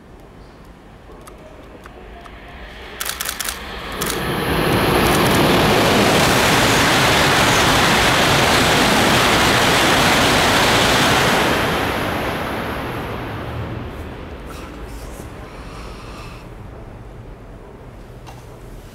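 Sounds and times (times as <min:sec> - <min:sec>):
high-speed train rushing past: 0:00.7 - 0:18.6.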